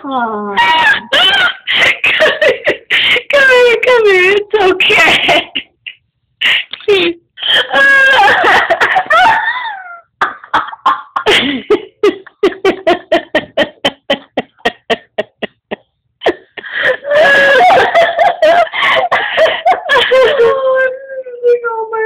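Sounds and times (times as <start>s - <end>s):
woman laughing: 0.6s - 3.8s, 4.8s - 21.6s
young woman crying: 0.6s - 4.0s, 4.8s - 22.0s.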